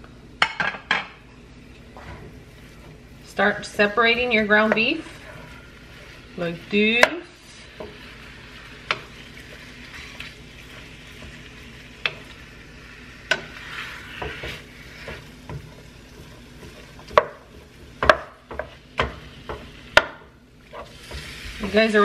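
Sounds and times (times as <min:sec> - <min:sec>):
wooden spoon scraping and knocking pan: 0:01.9 - 0:12.4, 0:13.2 - 0:22.0
meat sizzling in a skillet: 0:02.4 - 0:22.0.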